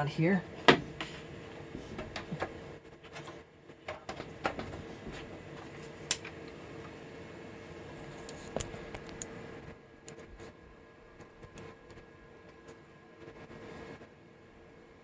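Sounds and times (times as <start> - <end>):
computer fan humming: 0.0 - 15.0.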